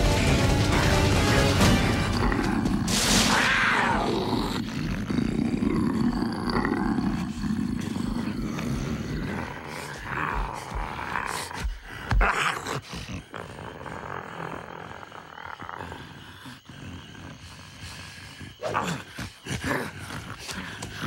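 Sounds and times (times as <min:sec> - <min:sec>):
low rough growling: 0:01.2 - 0:21.0
big cat roaring: 0:01.5 - 0:21.0.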